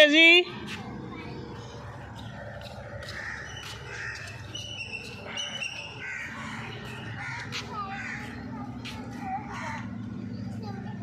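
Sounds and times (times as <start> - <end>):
birds calling: 1.2 - 11.0.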